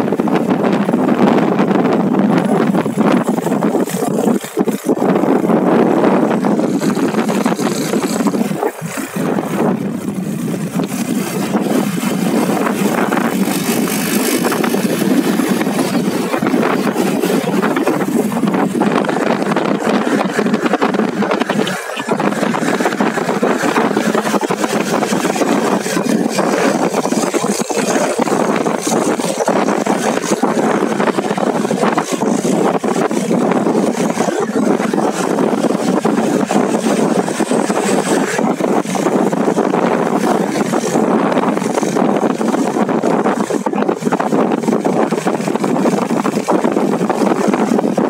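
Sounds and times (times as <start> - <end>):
motorcycle engine running: 0.0 - 48.0
wind rushing over microphone: 0.0 - 48.0.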